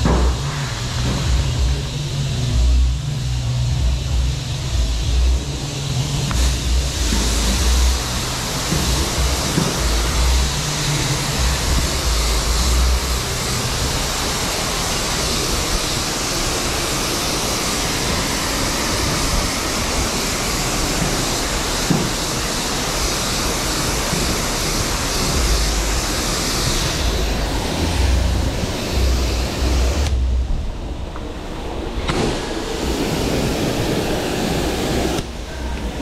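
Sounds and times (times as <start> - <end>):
pressure washer spraying water: 0.0 - 30.5, 31.2 - 36.0
low rumbling: 0.0 - 36.0.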